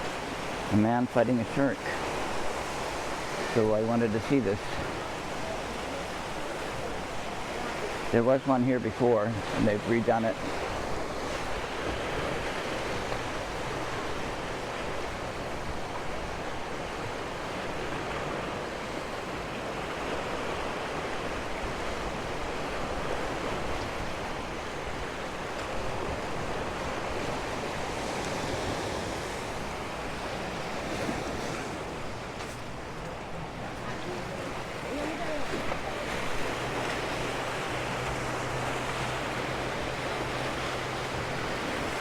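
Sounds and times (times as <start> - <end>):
sea surf washing on shore: 0.0 - 42.0.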